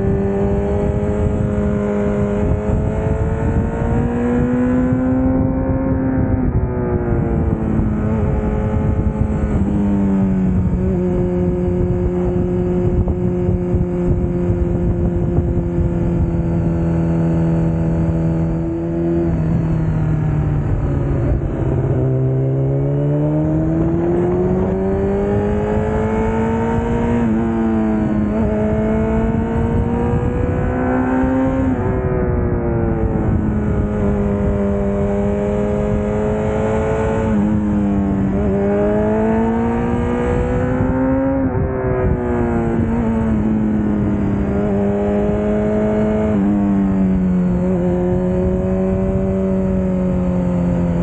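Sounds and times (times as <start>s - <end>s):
motorcycle engine running: 0.0s - 51.0s
wind rush on microphone: 0.0s - 51.0s.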